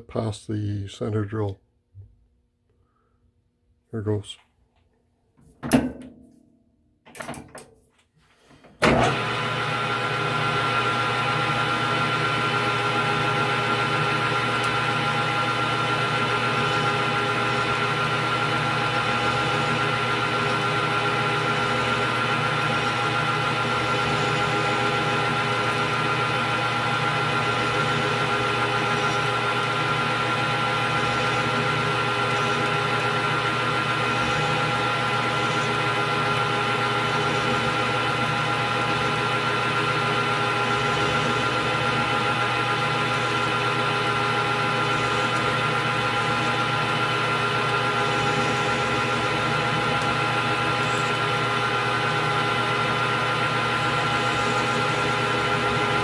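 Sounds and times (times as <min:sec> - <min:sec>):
metal lathe motor whine: 0:08.9 - 0:56.0.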